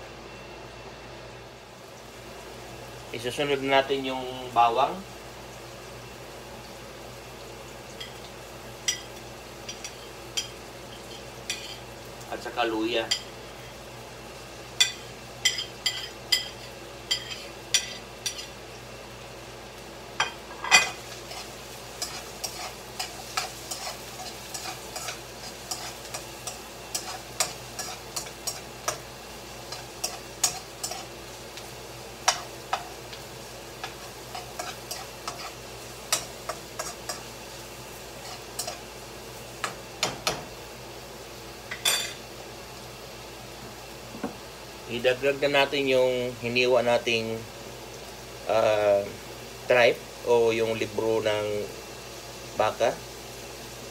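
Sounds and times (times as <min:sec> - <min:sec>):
frying sizzle: 0:00.0 - 0:53.9.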